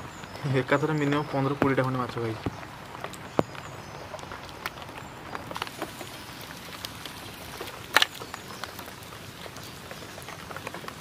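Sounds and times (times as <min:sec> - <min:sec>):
faint outdoor background: 0:00.0 - 0:11.0
cluster of clicks: 0:01.0 - 0:11.0.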